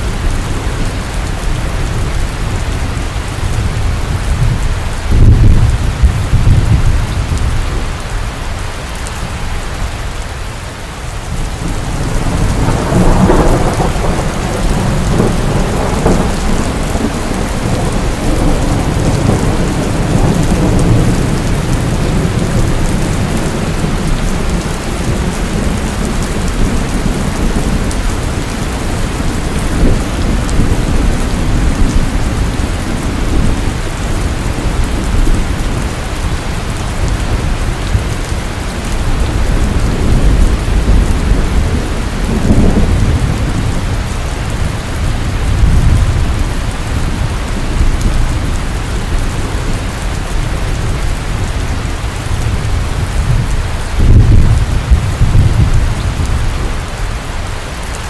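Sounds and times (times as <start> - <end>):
low rumbling thunder: 0.0 - 8.1, 11.2 - 58.0
heavy rain: 0.0 - 58.0.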